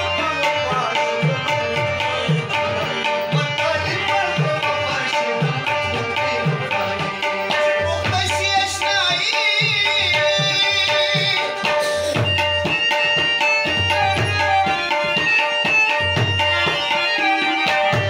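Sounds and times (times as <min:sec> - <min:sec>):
harmonium melody over drone: 0:00.0 - 0:18.0
tabla rhythm: 0:00.0 - 0:18.0.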